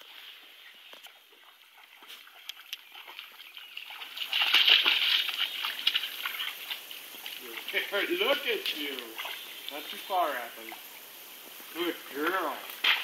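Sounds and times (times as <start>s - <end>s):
dogs splashing through water: 0.0s - 13.0s.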